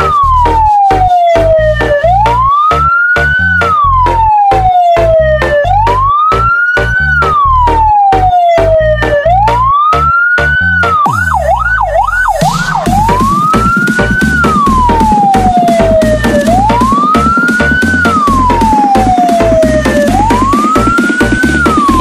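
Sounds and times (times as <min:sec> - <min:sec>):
music with heavy fast beat: 0:00.0 - 0:22.0
siren wailing: 0:00.0 - 0:22.0.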